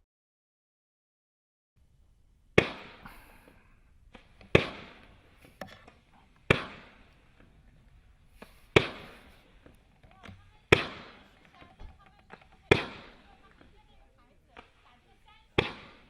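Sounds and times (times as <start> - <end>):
fireworks bangs: 1.8 - 16.0
small firework cracks: 1.8 - 16.0.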